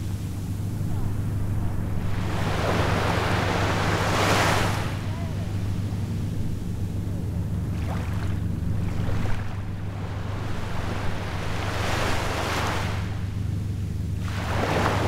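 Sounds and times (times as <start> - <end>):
small waves breaking on a beach: 0.0 - 13.6, 14.2 - 15.0
steady low rumble: 0.0 - 15.0.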